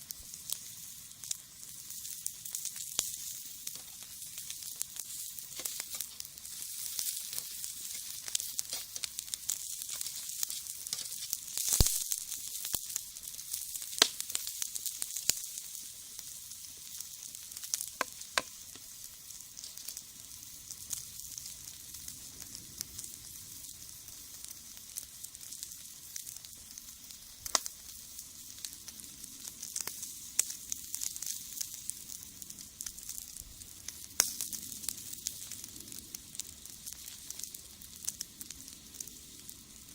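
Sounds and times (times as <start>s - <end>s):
fish sizzling on a grill: 0.0s - 39.9s
wood fire crackling: 0.0s - 39.9s.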